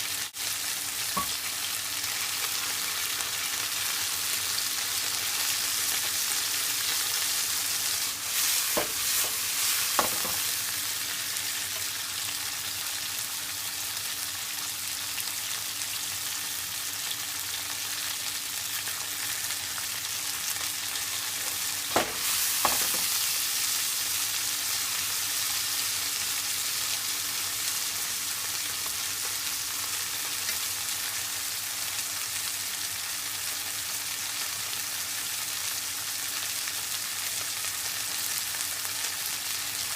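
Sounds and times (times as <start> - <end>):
stir-fry sizzling in a frying pan: 0.0 - 39.9.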